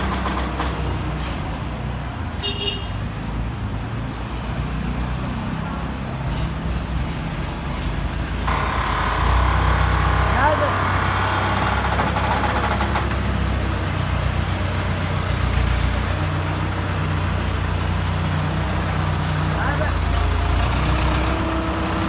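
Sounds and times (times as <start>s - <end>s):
engine running low rumble: 3.5s - 22.0s.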